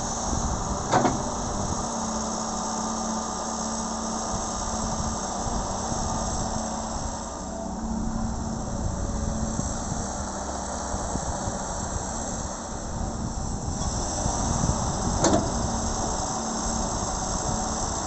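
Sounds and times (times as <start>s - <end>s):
excavator diesel engine running: 0.0s - 18.0s
steady low hum: 0.0s - 18.0s.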